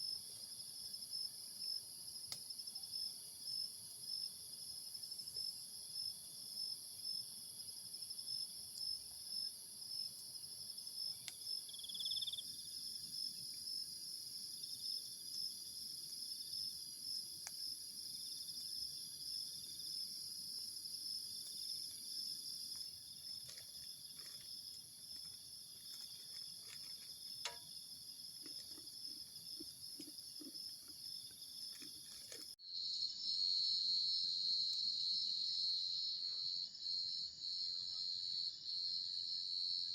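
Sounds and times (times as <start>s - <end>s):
crickets chirring: 0.0s - 39.9s
campfire crackles: 0.1s - 32.6s.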